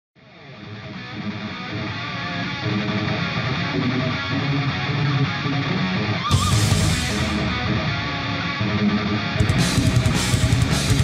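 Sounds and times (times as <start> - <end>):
background guitar music: 0.2 - 11.0.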